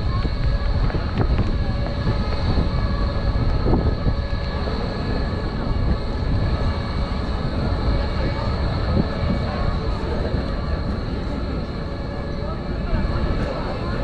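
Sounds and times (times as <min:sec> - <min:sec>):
faint high whining tones: 0:00.0 - 0:14.0
train low rumble: 0:00.0 - 0:14.0.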